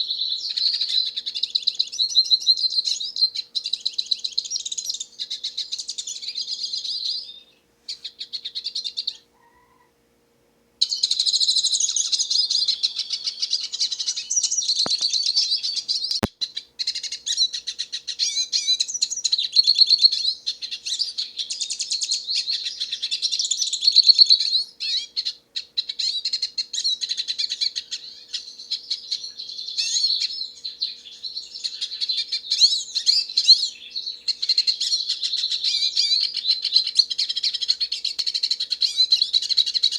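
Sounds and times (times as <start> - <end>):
bird twittering song: 0.0 - 9.8, 10.8 - 39.9.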